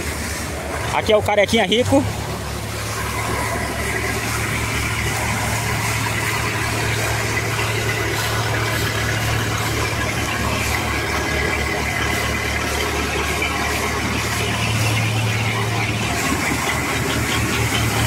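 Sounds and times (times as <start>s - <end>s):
water pump engine droning: 0.0s - 18.0s.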